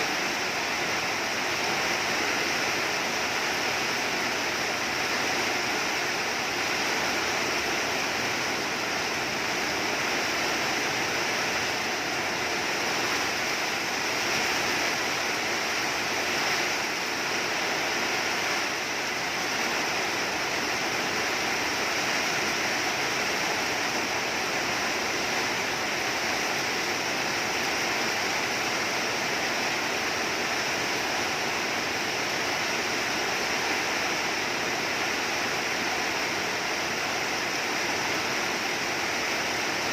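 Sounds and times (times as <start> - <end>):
rain downpour: 0.0 - 39.9.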